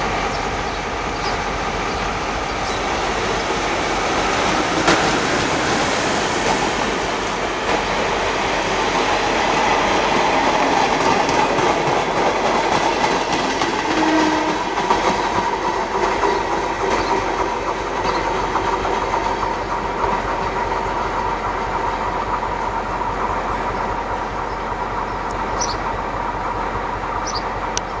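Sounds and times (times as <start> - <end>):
high wheel squeaks: 0.0 - 22.0, 23.6 - 28.0
diesel train rumbling past: 0.0 - 28.0
wheels clicking over rail joints: 0.0 - 28.0.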